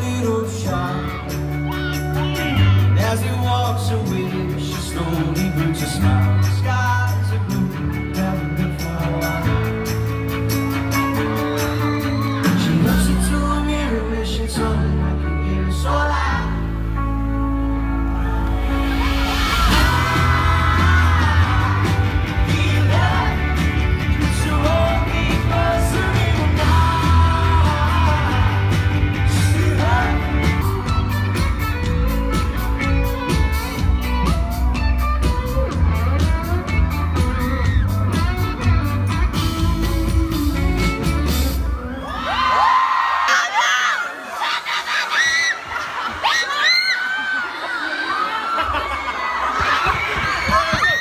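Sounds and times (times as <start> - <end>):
live rock band with singing: 0.0 - 42.9
crowd screaming and cheering: 0.0 - 51.0.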